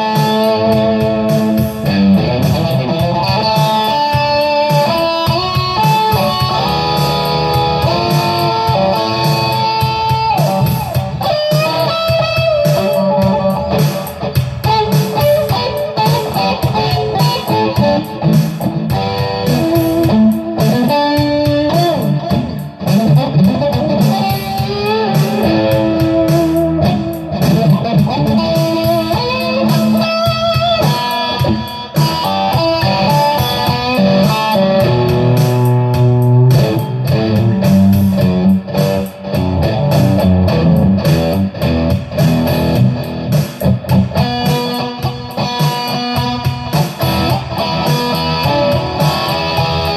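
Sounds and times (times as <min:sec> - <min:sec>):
electric guitar lead: 0:00.0 - 0:49.9.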